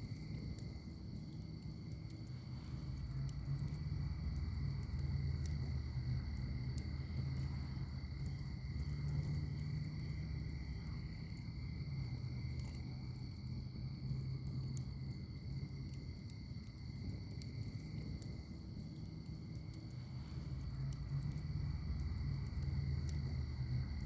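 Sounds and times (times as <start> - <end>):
insect trill: 0.0 - 24.0
wood fire crackling: 0.0 - 24.0.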